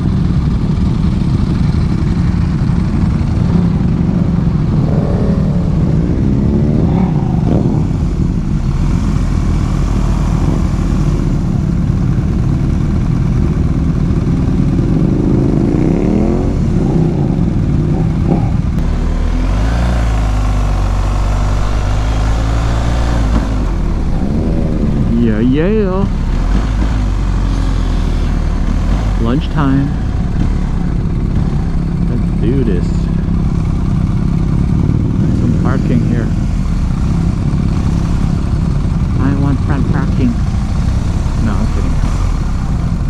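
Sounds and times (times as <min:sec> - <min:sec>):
motorcycle engines running: 0:00.0 - 0:43.0.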